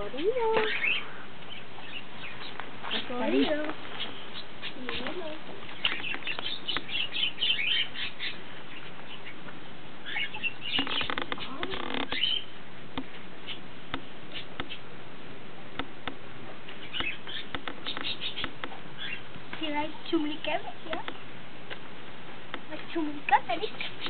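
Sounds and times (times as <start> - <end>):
small birds chirping: 0.0 - 15.0, 15.7 - 24.0.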